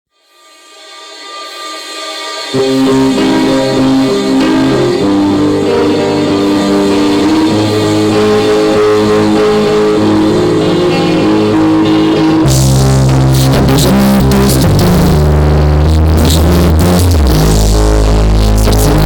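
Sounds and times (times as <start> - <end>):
rock music with sustained guitar: 0.8 - 19.0.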